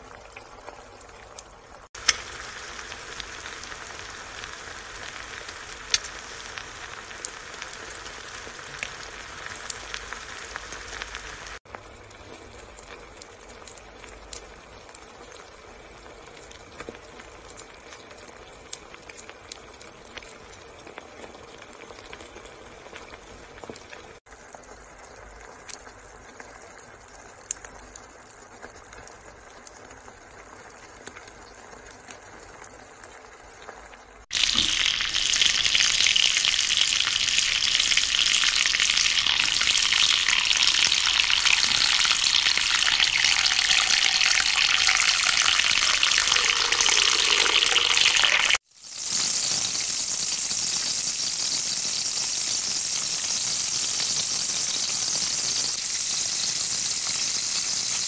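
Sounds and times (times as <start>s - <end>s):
eggs sizzling in a pan: 0.0s - 58.0s
fish frying in oil: 0.0s - 58.0s.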